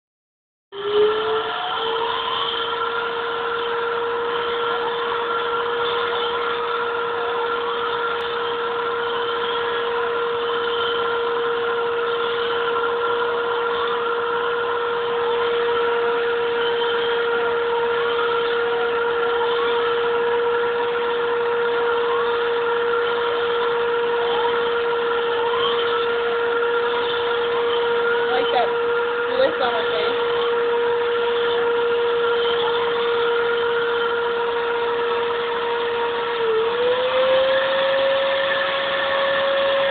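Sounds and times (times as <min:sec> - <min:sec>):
short rising whistles: 0:00.8 - 0:39.9
vacuum cleaner motor whining: 0:00.8 - 0:39.9.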